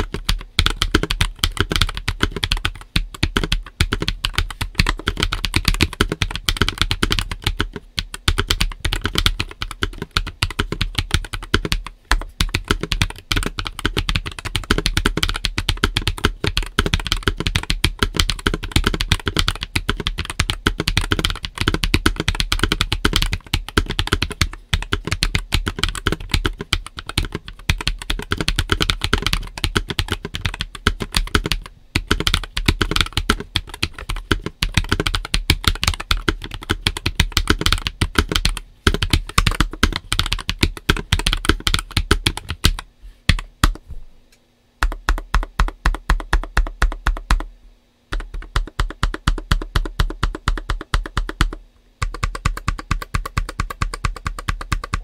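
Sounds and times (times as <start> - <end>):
mechanical keyboard typing: 0.0 - 43.8, 44.8 - 47.5, 48.1 - 55.0.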